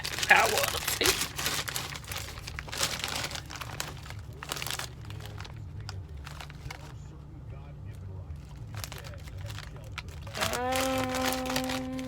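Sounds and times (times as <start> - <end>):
foil chip bag crinkling: 0.0 - 7.2, 8.0 - 12.0.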